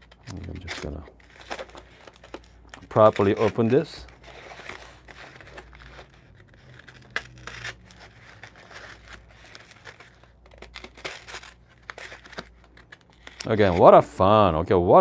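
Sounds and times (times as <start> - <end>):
paper tearing and crinkling: 0.0 - 14.1
knife cutting cardboard: 0.3 - 13.9.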